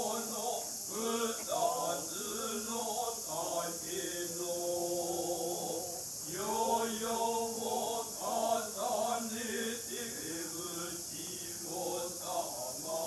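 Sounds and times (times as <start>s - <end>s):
male chorus chanting in unison: 0.0s - 13.0s.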